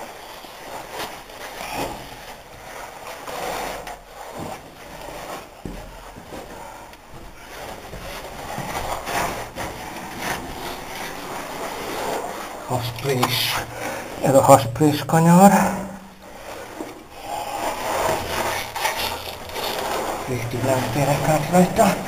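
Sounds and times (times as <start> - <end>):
clothing scraping against rock: 0.0 - 14.5, 15.2 - 22.0.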